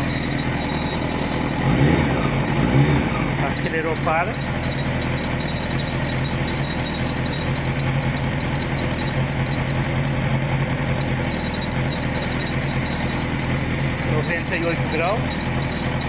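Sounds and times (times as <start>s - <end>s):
high-pitched water pump whistle: 0.0s - 2.0s, 3.4s - 13.4s, 14.0s - 16.0s
motorcycle engine idling: 0.0s - 16.0s.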